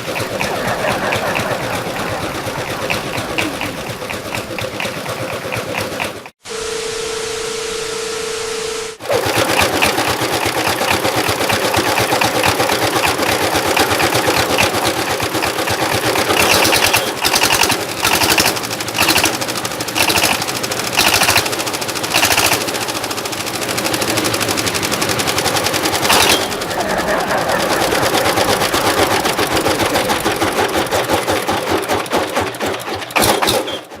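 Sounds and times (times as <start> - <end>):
engine revving bursts: 0.0 - 6.3, 8.7 - 33.9
engine rattling at high revs: 0.0 - 6.4, 9.0 - 34.0.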